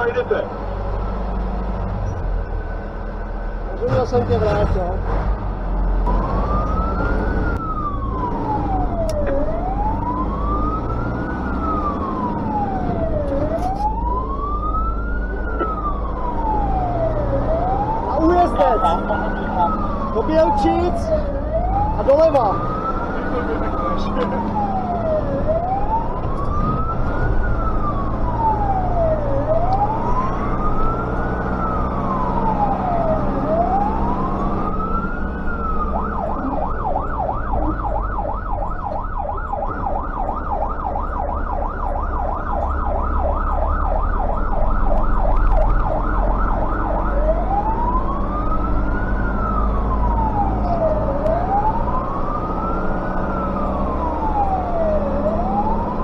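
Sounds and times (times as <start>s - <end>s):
fire engine siren: 0.0s - 4.7s, 5.9s - 56.0s
diesel engine drone: 0.0s - 56.0s.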